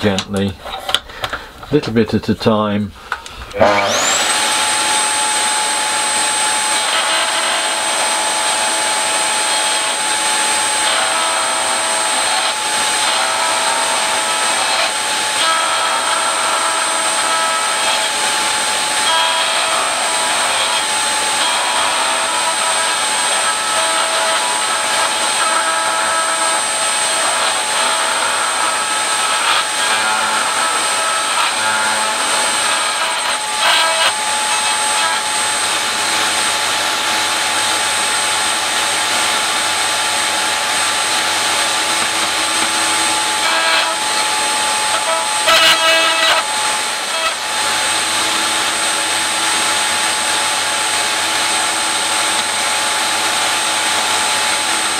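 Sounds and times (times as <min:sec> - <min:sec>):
router cutting wood: 0:03.1 - 0:54.9
router whining: 0:03.1 - 0:54.9.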